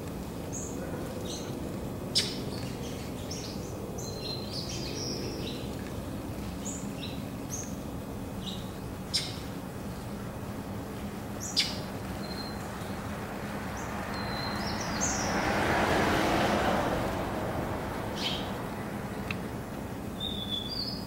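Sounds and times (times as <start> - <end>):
distant traffic hum: 0.0 - 21.0
songbirds chirping: 0.0 - 21.0.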